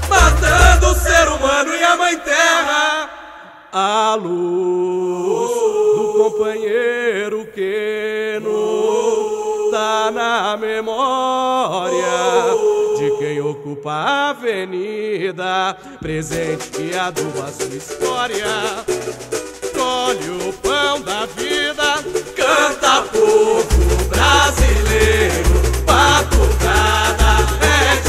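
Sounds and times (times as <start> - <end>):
group singing samba melody: 0.0 - 28.0.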